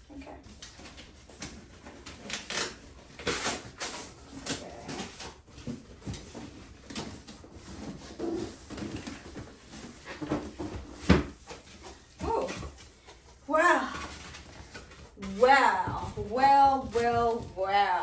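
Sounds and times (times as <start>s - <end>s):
cardboard scraping and rustling: 0.6s - 18.0s.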